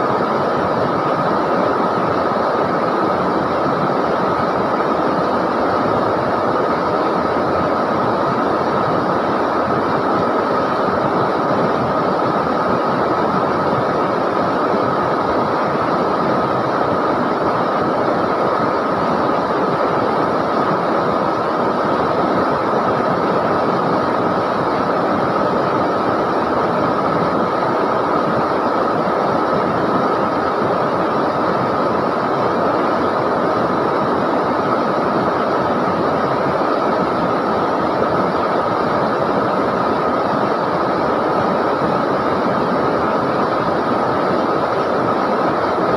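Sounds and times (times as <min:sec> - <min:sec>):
river water rushing: 0:00.0 - 0:45.9.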